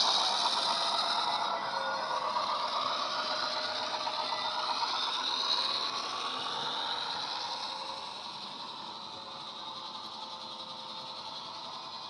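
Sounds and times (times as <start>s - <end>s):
diesel engine sound from speaker: 0.0s - 12.0s
model train wheels rattling: 0.0s - 12.0s.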